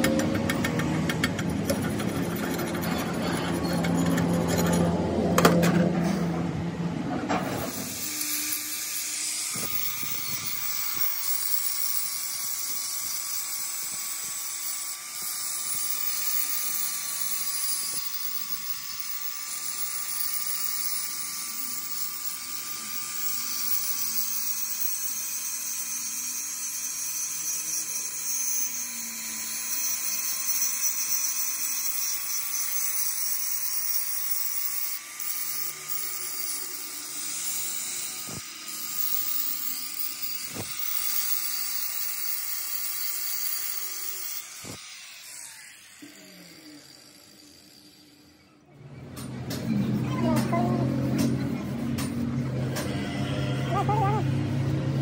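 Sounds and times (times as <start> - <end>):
angle grinder grinding metal: 0.0 - 55.0.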